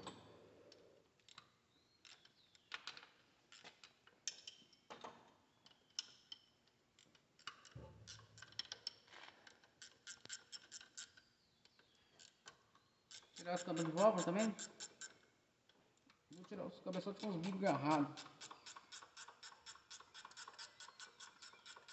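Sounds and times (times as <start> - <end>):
wrench clicking and scraping on metal: 2.0 - 4.9, 5.7 - 15.3, 16.4 - 21.9.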